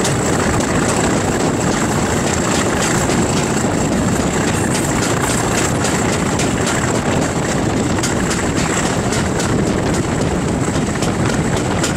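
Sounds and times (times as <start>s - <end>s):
diesel locomotive engine rumbling: 0.0s - 11.9s
wind buffeting microphone: 0.0s - 11.9s.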